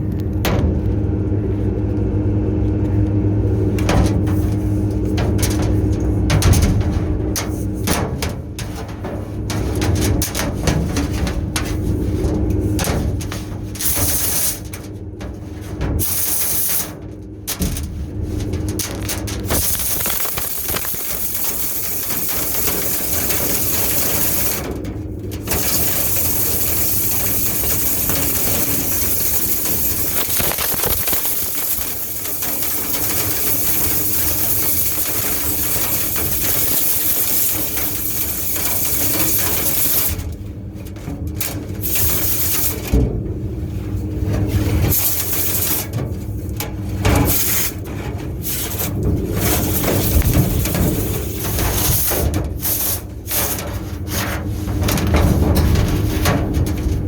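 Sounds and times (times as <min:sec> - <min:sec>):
vent cleaning equipment rushing: 0:00.0 - 0:57.0.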